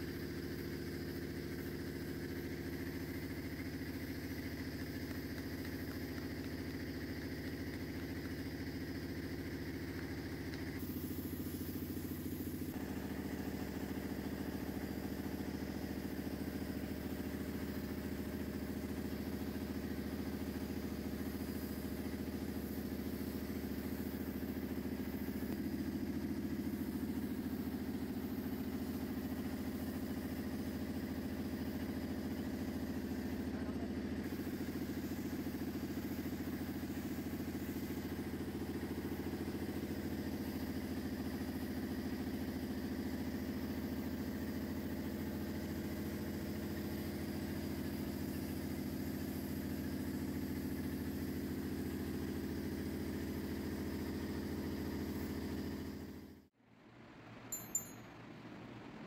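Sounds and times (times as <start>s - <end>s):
air compressor motor running: 0.0s - 56.7s.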